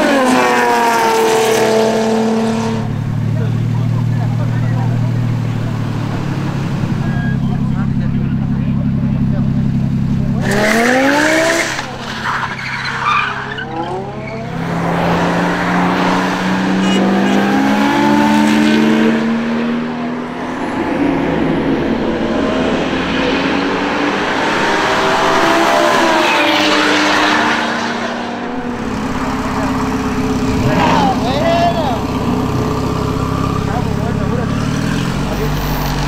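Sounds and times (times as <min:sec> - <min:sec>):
car engine revving and accelerating: 0:00.0 - 0:36.0.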